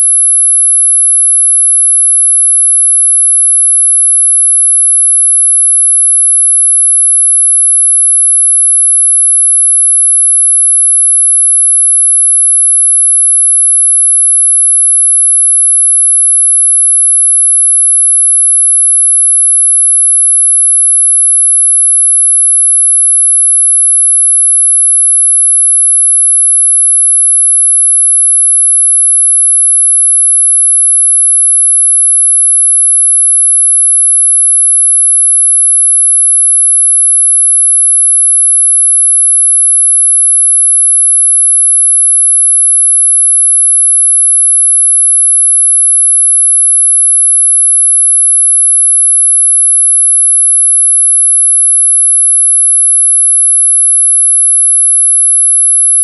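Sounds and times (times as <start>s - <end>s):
high-pitched sine tone: 0.0s - 56.0s.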